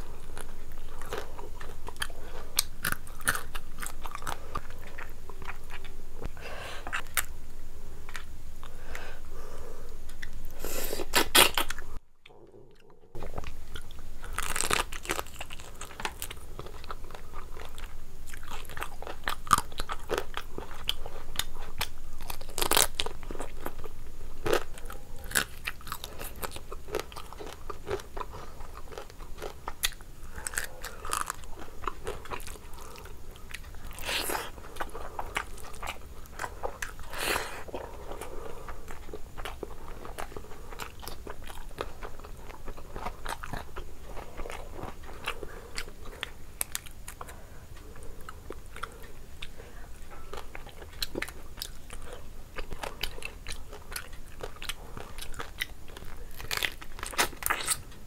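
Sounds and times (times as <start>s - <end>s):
chewing and crunching: 0.0s - 7.3s, 9.8s - 58.0s.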